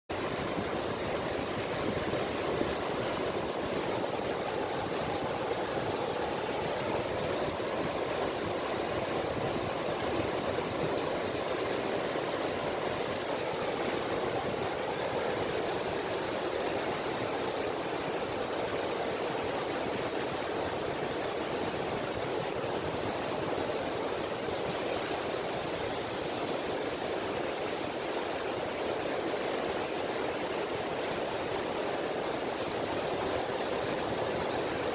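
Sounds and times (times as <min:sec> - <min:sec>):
gentle waves lapping on beach: 0:00.1 - 0:34.9.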